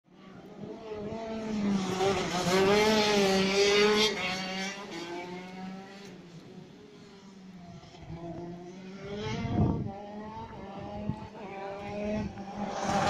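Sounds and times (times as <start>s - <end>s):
go-kart engine passing: 0.2s - 6.4s, 7.1s - 13.0s.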